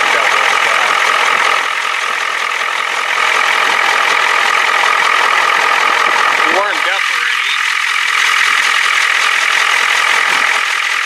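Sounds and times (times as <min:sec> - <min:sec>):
cooling fan spinning: 0:00.0 - 0:11.0
diesel engine idling: 0:00.0 - 0:11.0.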